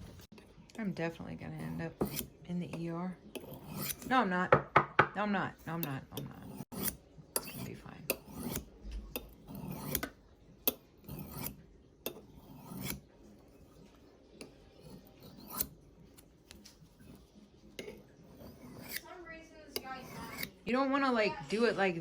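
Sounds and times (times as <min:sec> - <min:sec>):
knife rasping on ceramic: 0:01.0 - 0:04.9, 0:05.6 - 0:20.7.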